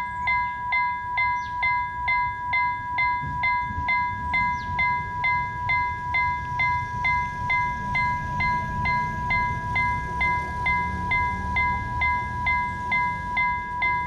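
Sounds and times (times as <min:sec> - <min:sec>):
level-crossing warning bell ringing: 0:00.0 - 0:14.0.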